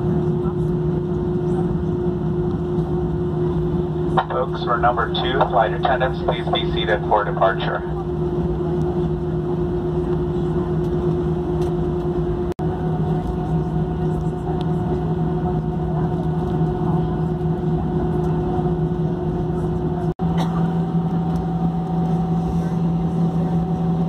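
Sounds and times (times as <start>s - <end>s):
aircraft cabin hum: 0.0s - 24.0s.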